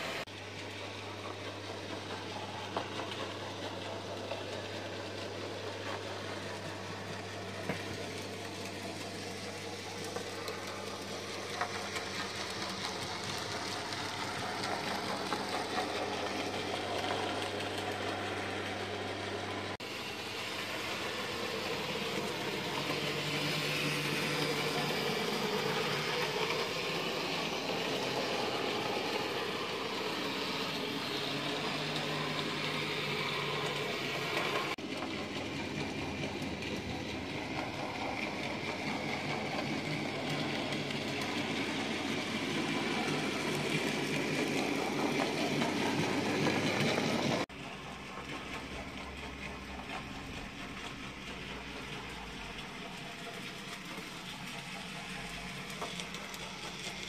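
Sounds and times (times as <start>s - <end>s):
model train motor whirring: 0.0s - 57.0s
wheels clicking on track: 0.0s - 57.0s.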